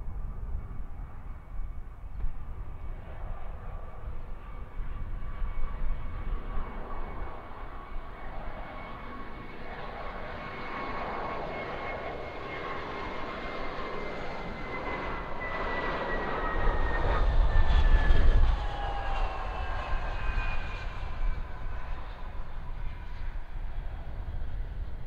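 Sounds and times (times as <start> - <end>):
jet airliner passing: 0.0 - 25.0.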